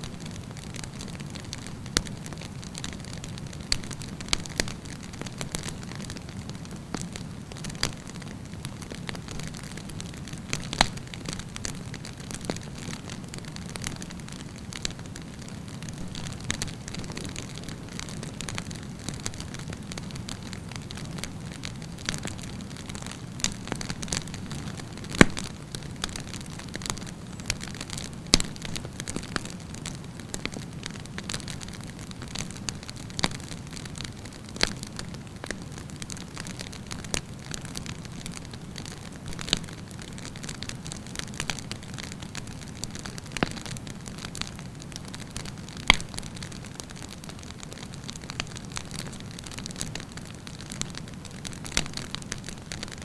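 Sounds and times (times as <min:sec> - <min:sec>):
burning wood crackling and popping: 0:00.0 - 0:53.0
campfire flames roaring: 0:00.0 - 0:53.0.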